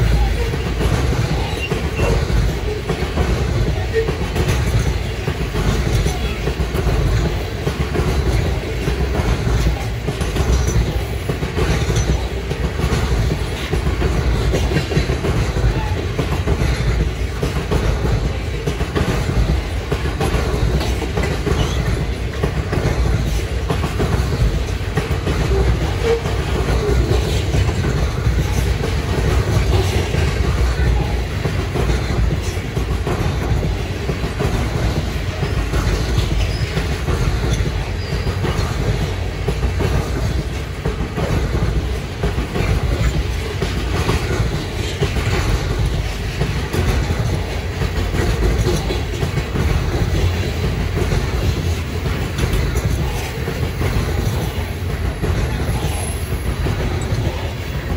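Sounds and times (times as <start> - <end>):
freight train wheels on rail: 0.0 - 57.9.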